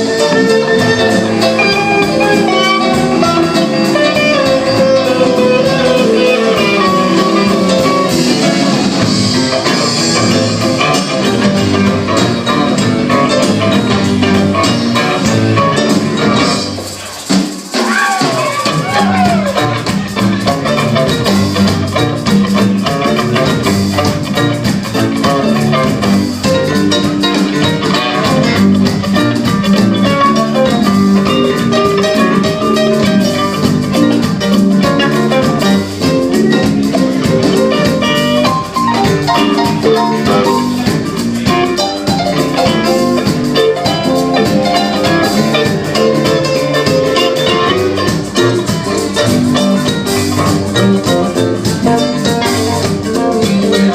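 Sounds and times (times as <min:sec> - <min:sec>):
drum kit steady beat: 0:00.0 - 0:53.9
guitar lines: 0:00.0 - 0:53.9.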